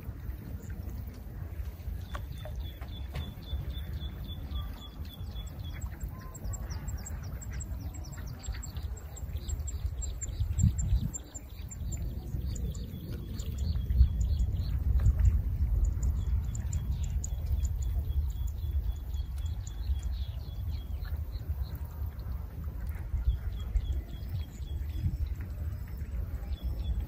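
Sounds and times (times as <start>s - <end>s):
low rumble: 0.0s - 27.0s
small birds chirping: 0.0s - 27.0s.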